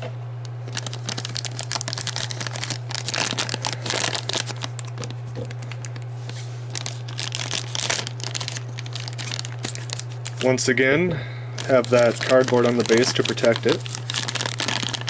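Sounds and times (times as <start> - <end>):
plastic packaging crinkling: 0.6 - 10.8, 11.6 - 15.0.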